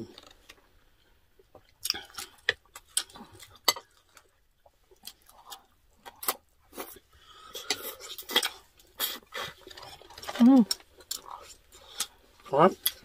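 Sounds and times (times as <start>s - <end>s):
chewing and mouth sounds: 1.4s - 13.0s.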